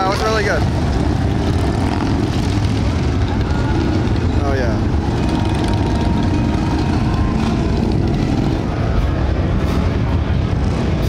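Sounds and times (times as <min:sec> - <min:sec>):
motorcycles passing by: 0:00.0 - 0:11.0.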